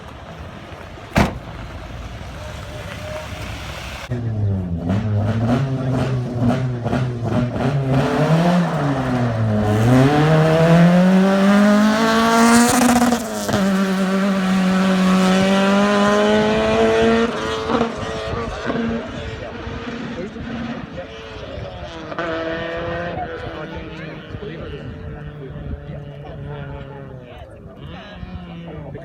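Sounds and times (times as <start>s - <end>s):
car engine revving: 0.0s - 27.1s.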